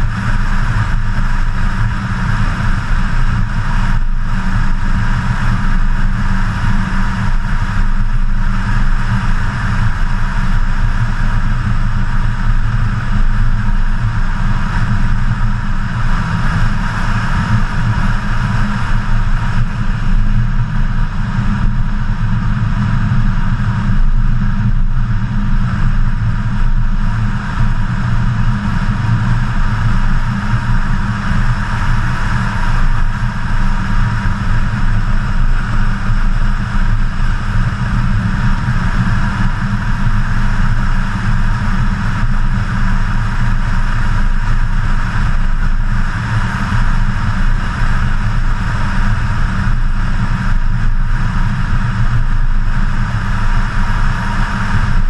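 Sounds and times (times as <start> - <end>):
wind rush: 0.0 - 55.0.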